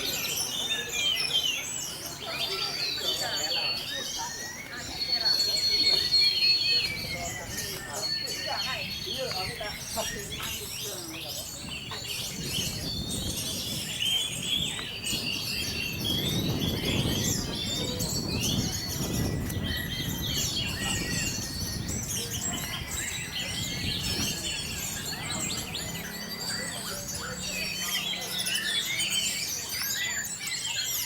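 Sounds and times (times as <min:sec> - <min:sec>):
low murmur: 0:00.0 - 0:30.7
songbirds singing: 0:00.0 - 0:31.0.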